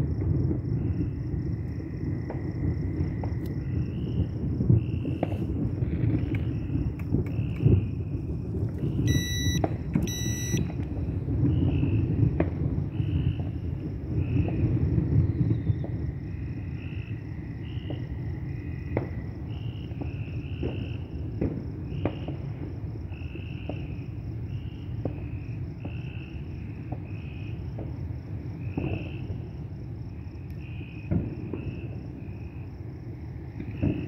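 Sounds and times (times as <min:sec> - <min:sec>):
distant fireworks pops: 0:00.0 - 0:16.4, 0:17.6 - 0:29.7, 0:30.4 - 0:32.5, 0:33.4 - 0:34.0
crickets chirping: 0:00.0 - 0:34.0
low outdoor rumble: 0:00.0 - 0:34.0.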